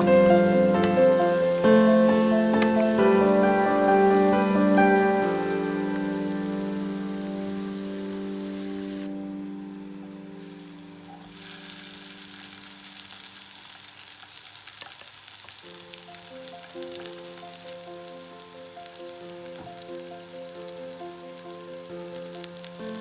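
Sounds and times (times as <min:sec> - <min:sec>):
food sizzling in frying pan: 0:00.0 - 0:09.2, 0:10.2 - 0:23.0
soft background music: 0:00.0 - 0:13.8, 0:15.5 - 0:23.0.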